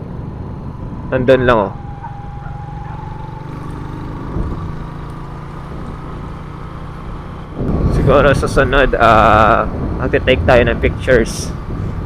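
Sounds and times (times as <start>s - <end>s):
motorcycle engine rumble: 0.0s - 12.0s
road noise: 0.0s - 12.0s.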